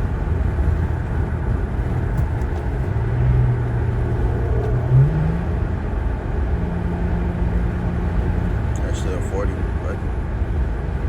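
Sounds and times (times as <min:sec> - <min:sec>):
car engine and exhaust droning: 0:00.0 - 0:11.0.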